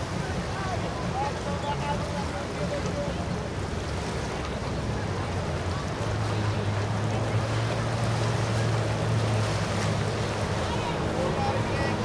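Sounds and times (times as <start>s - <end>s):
boat engines idling: 0.0s - 12.0s
water noise: 0.0s - 12.0s
wind: 0.0s - 12.0s.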